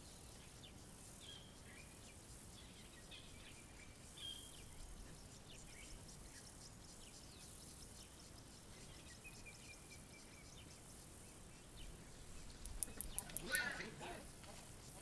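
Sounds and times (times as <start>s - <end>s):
faint bird chirps and calls: 0.0s - 15.0s
soft steady hiss: 0.0s - 15.0s.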